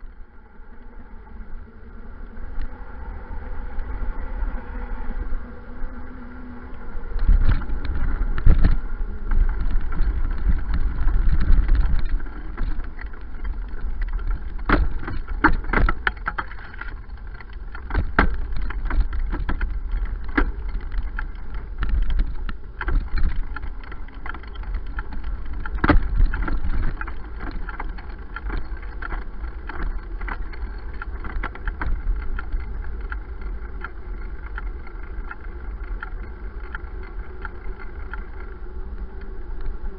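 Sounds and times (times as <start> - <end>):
bike rattling over bumps: 0.0 - 39.9
wind rumble on microphone: 0.0 - 39.9.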